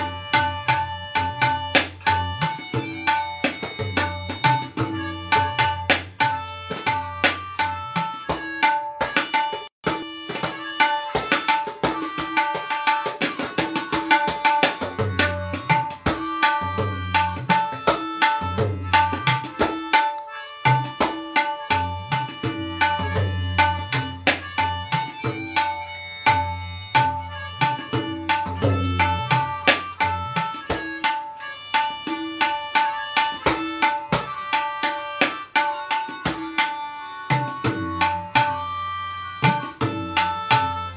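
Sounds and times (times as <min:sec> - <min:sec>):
rapid tabla strokes: 0:00.0 - 0:40.9.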